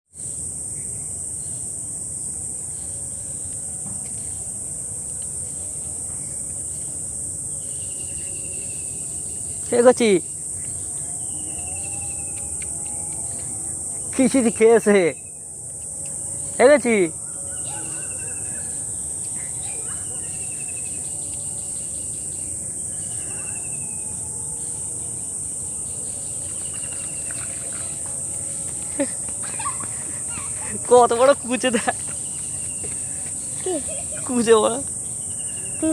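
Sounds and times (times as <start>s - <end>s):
crickets trilling: 0.1s - 35.9s
night insects chorus: 0.1s - 35.9s.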